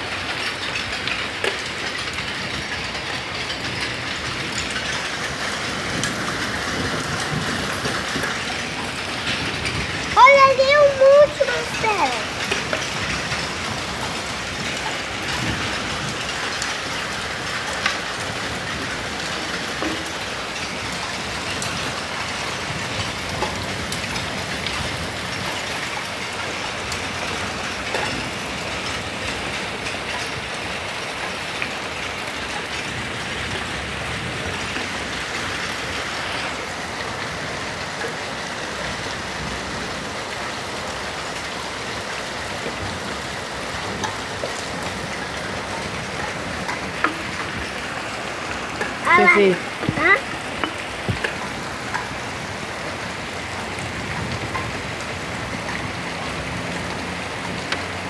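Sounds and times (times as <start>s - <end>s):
hailstones ticking: 0.0s - 58.0s
heavy rain: 0.0s - 58.0s.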